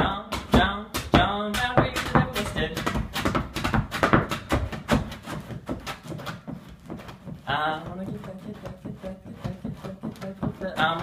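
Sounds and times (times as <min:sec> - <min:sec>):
dance shoes on wooden board: 0:00.0 - 0:11.0.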